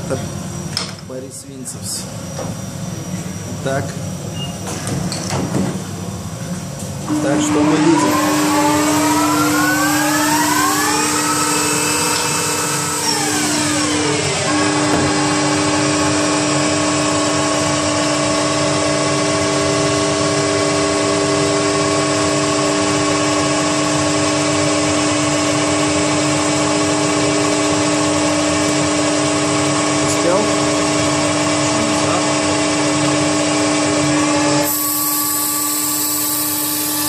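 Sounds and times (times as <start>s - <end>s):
constant machine hum: 0.0s - 34.8s
lathe machine whine: 6.9s - 37.0s.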